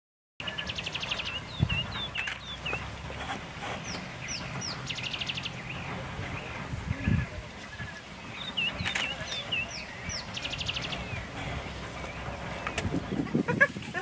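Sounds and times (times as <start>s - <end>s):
wild dogs chirping: 0.4s - 13.5s.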